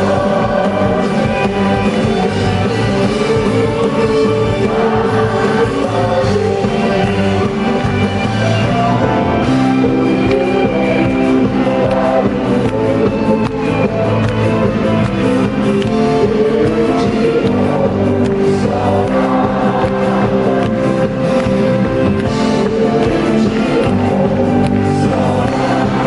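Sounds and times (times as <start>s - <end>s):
live band playing folk-pop: 0.0s - 26.0s
person singing: 0.0s - 26.0s.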